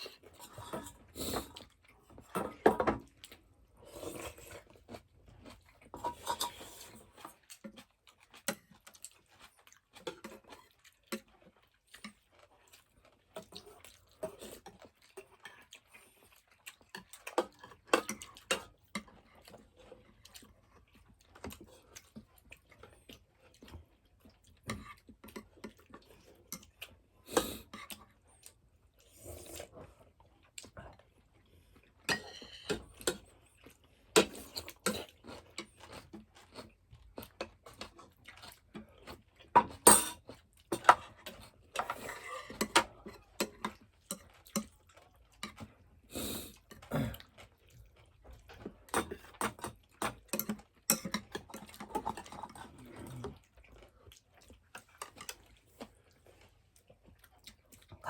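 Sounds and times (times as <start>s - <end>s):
chewing: 0.0s - 58.0s.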